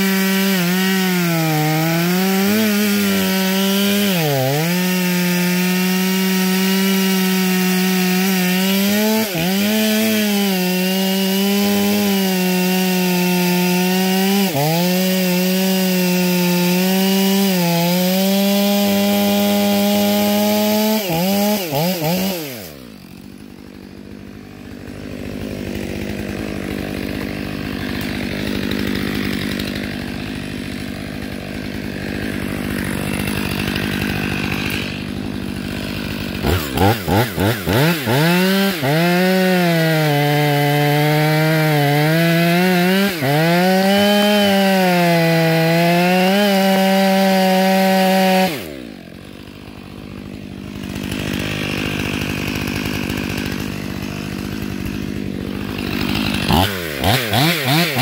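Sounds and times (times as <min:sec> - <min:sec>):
chainsaw cutting through log: 0:00.0 - 0:58.0
chainsaw idling and revving: 0:00.0 - 0:58.0.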